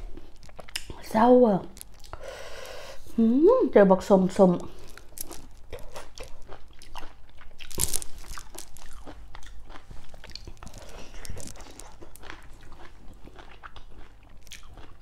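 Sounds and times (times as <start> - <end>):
person chewing crunchy food: 0.0 - 3.1, 4.5 - 15.0.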